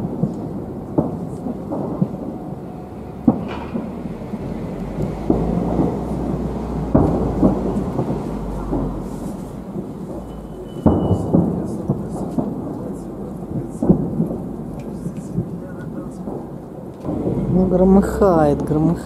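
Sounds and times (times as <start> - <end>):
fireworks booming: 0.0 - 19.0.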